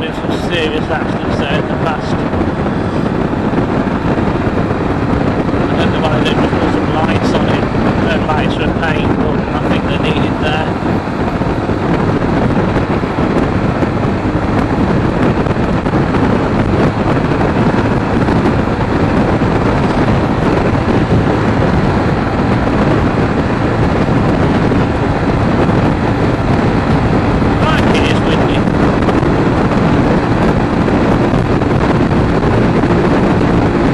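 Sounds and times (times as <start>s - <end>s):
motorcycle engine running: 0.0s - 33.9s
wind rushing over microphone: 0.0s - 33.9s.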